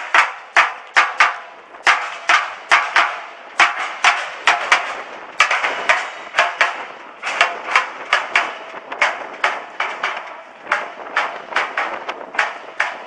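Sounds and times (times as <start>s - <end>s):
rapid sharp knocks: 0.0s - 13.0s.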